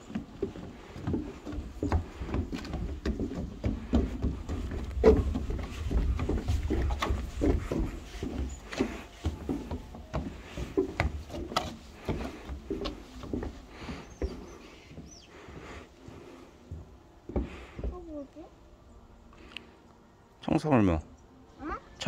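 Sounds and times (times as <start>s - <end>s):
footsteps on wooden boards: 0.0s - 18.4s.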